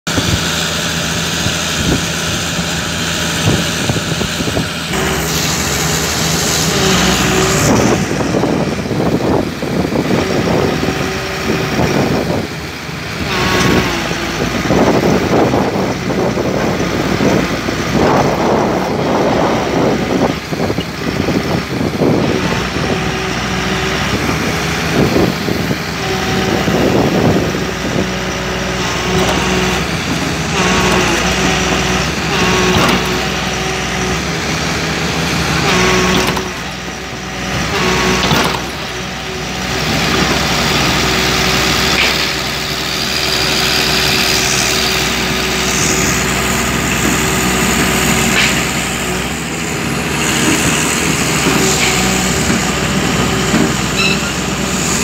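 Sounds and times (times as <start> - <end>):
excavator diesel engine running: 0.1 - 55.0.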